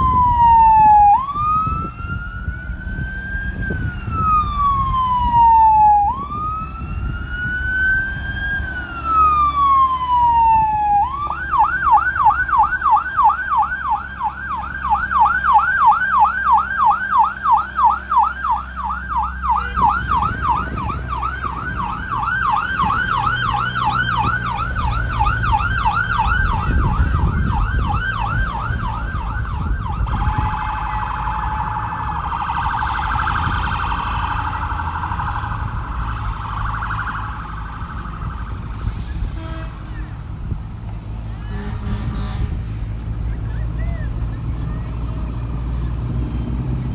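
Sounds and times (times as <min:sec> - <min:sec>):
emergency vehicle siren: 0:00.0 - 0:46.9
low vehicle rumble: 0:00.0 - 0:46.9.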